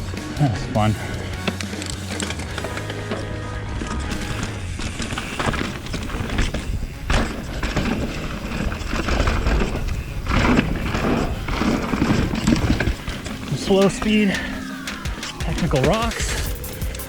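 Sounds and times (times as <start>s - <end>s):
mountain bike rattling over rocks: 0.0s - 17.0s.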